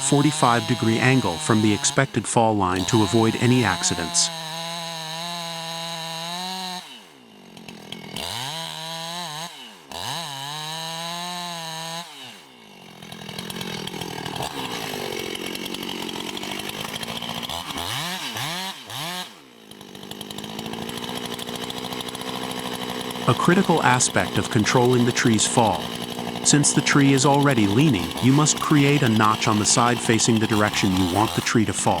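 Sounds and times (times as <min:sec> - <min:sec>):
chainsaw cutting wood: 0:00.0 - 0:32.0
chainsaw revving: 0:00.0 - 0:32.0.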